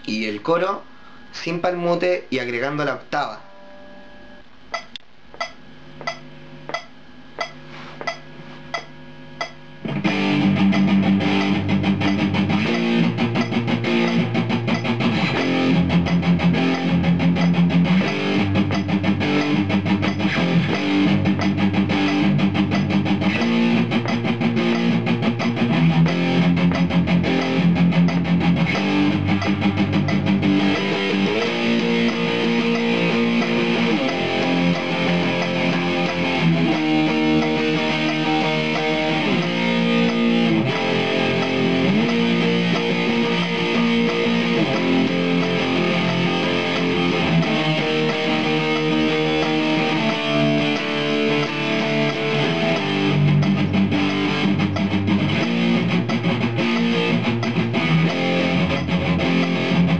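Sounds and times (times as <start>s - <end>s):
count-in clicks: 4.7s - 59.9s
electric guitar power chords: 8.8s - 59.9s.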